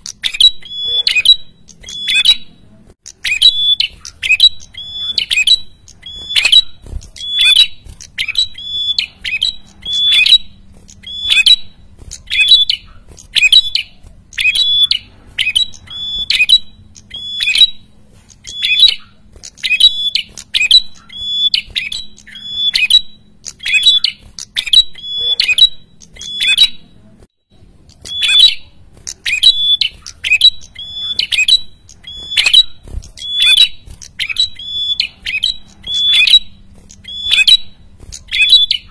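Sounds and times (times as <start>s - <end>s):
songbird chattering calls: 0.0s - 26.9s, 27.9s - 38.9s.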